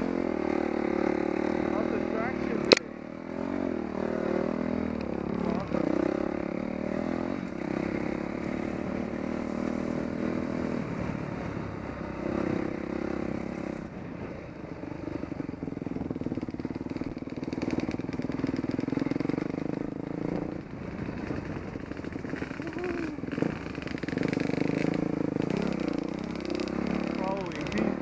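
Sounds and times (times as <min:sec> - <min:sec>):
dirt bike engine running: 0:00.0 - 0:28.0.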